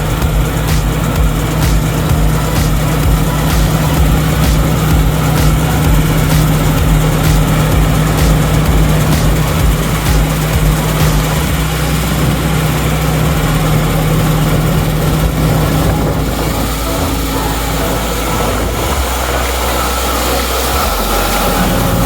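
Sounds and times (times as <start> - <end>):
combine harvester engine running: 0.0 - 22.0.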